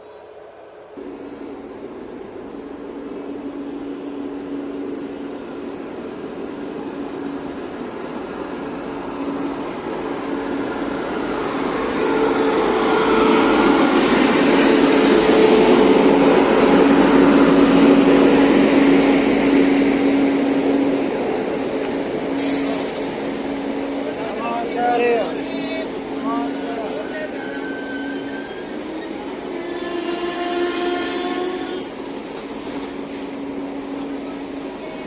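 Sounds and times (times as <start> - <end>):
electric locomotive hum: 0.0 - 35.0
train wheels rumbling on rail: 0.0 - 35.0.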